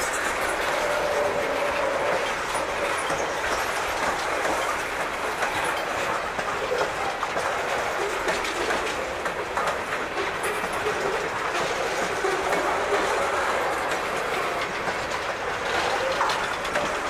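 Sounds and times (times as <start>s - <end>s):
train wheels rolling on rail: 0.0s - 17.0s
wheels clacking over rail joints: 0.0s - 17.0s.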